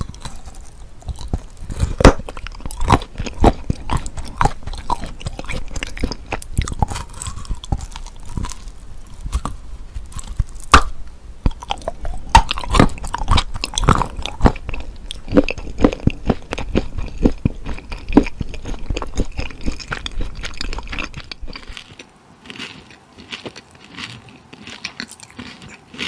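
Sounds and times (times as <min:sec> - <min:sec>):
crunchy chocolate snaps: 0:00.0 - 0:21.8
wet chewing: 0:00.0 - 0:26.0.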